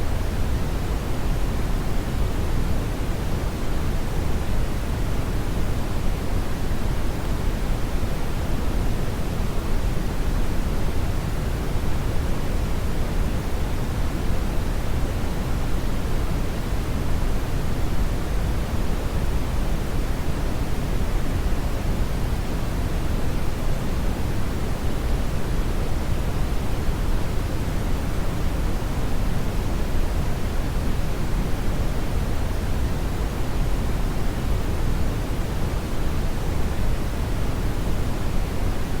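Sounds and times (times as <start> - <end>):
brown noise rumbling hiss: 0.0 - 39.0.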